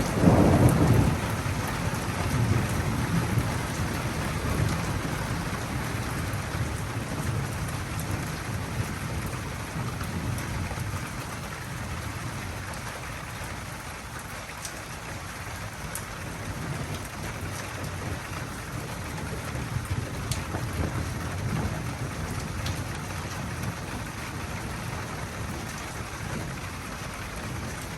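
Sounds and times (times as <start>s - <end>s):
thunder rumbling: 0.0s - 12.7s, 16.2s - 27.9s
steady rain: 0.0s - 27.9s.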